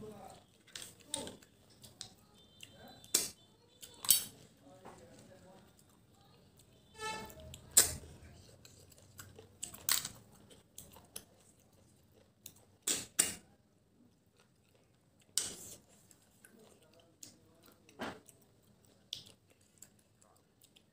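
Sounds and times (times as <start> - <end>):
faint chewing: 0.1 - 20.9.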